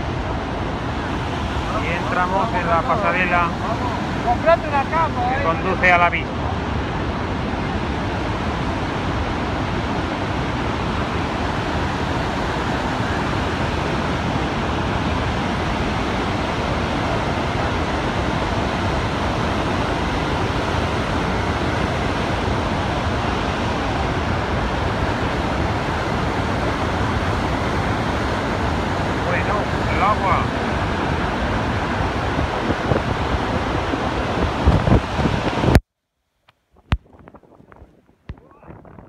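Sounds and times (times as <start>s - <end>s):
waterfall roaring: 0.0s - 35.8s.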